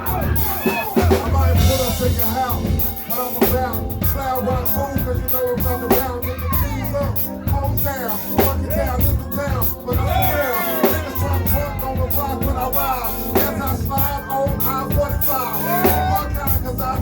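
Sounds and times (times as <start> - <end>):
heavy bass: 0.0 - 17.0
steady drum beat: 0.0 - 17.0.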